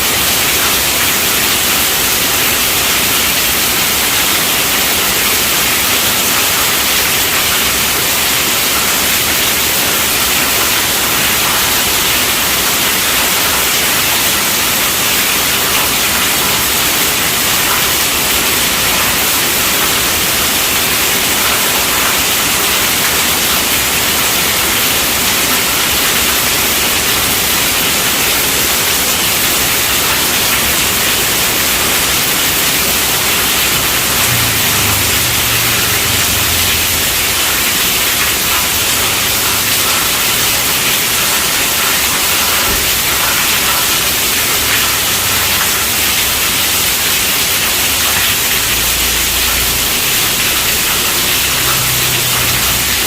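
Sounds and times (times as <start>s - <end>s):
heavy rain on a tent roof: 0.0s - 53.0s.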